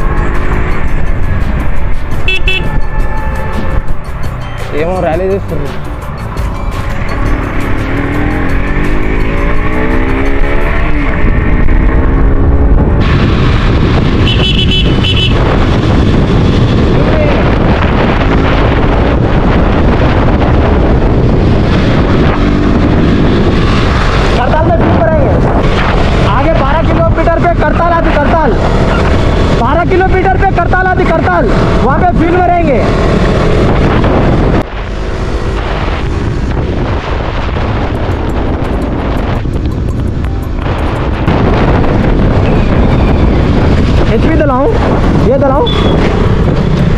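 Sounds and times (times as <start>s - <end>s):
motorcycle engine running: 0.0s - 46.9s
wind buffeting microphone: 0.0s - 46.9s.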